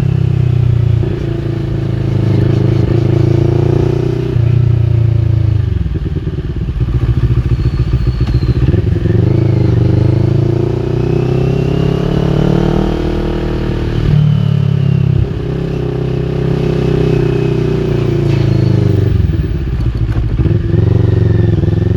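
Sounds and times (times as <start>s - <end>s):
exhaust crackling on overrun: 0.0s - 21.9s
motorcycle engine revving: 0.0s - 21.9s.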